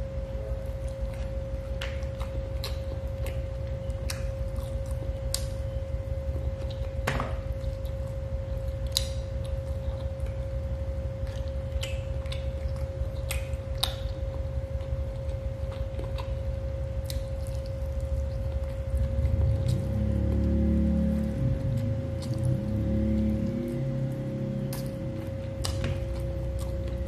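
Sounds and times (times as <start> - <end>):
low hum: 0.0 - 27.0
person chewing and smacking lips: 0.6 - 5.8, 6.4 - 27.0.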